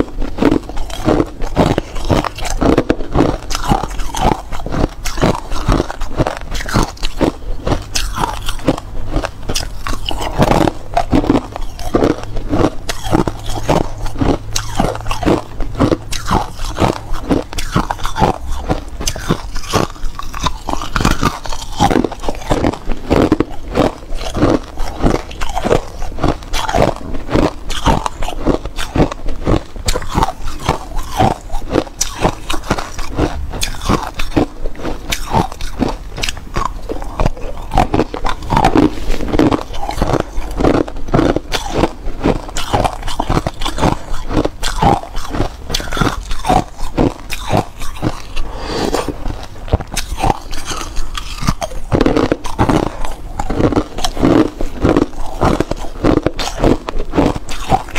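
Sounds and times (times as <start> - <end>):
person chewing ice: 0.0 - 57.9.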